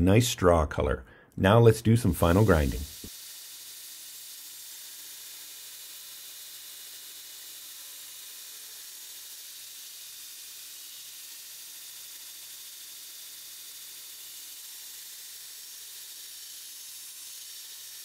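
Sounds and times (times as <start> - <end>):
belt grinder grinding steel: 2.0 - 18.0.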